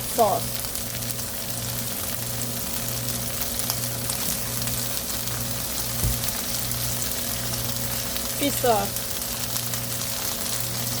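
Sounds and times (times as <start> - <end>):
frying in hot oil sizzling: 0.0 - 11.0.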